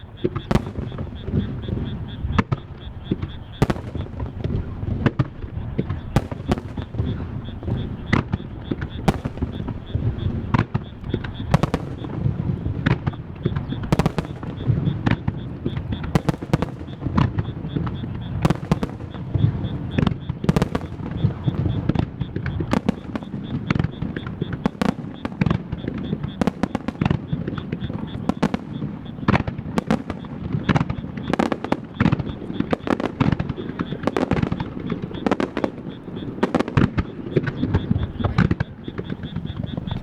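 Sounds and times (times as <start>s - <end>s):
fireworks bursting: 0.0s - 40.0s.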